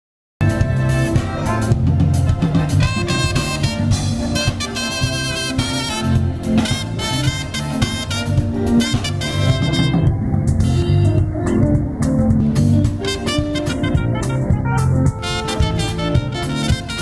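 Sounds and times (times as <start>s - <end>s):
live band playing: 0.4s - 17.0s.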